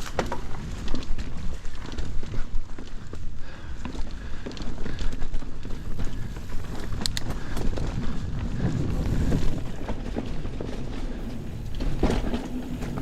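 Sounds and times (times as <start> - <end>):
mountain bike rolling on dirt: 0.0 - 13.0.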